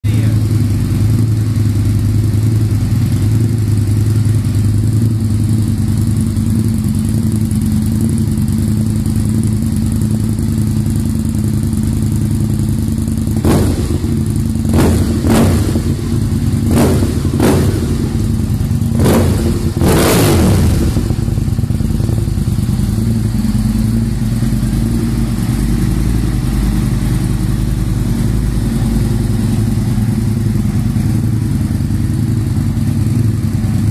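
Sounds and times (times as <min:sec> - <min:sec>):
motorcycle engine idling: 0:00.0 - 0:33.9
motorcycle throttle blips: 0:03.6 - 0:33.9.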